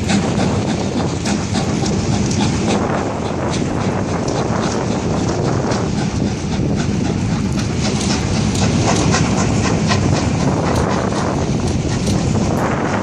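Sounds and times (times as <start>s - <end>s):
train coaches rolling past: 0.0s - 13.0s
wheels clicking over rail joints: 0.0s - 13.0s.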